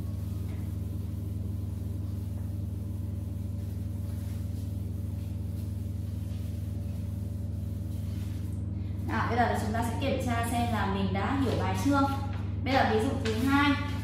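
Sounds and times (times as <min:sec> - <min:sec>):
cloth wiping chalkboard: 0:00.0 - 0:14.0.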